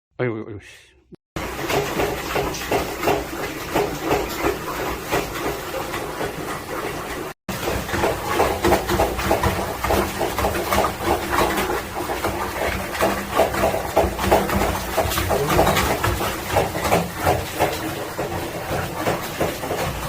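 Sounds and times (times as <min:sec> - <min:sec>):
water gurgling through pipes: 0:01.4 - 0:20.0.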